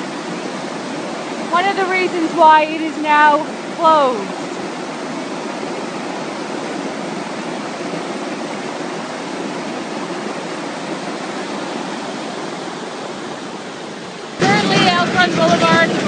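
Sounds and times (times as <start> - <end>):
torrent of water rushing: 0.0 - 16.0.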